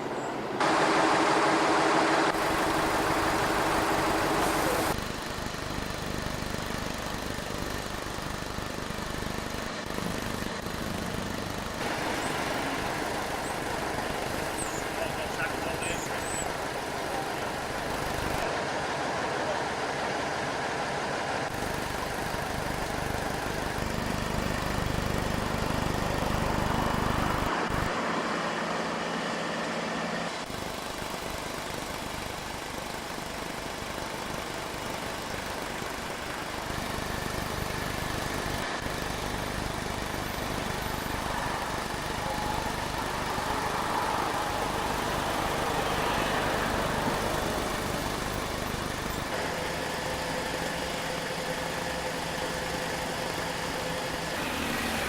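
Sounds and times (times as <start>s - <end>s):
heavy vehicle engines idling: 0.0s - 55.0s.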